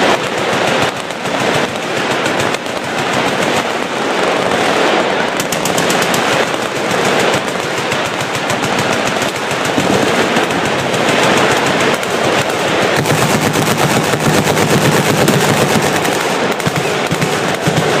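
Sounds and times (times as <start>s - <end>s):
machine guns firing: 0.0s - 18.0s.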